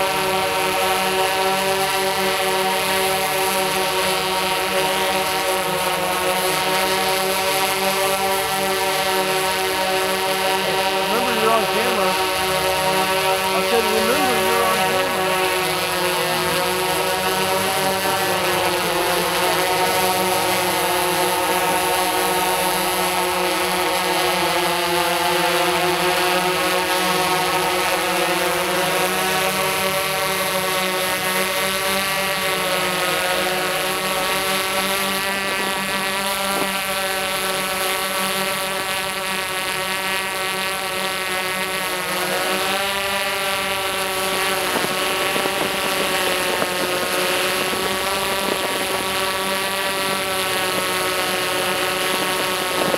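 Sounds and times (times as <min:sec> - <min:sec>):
drone propellers humming: 0:00.1 - 0:52.9.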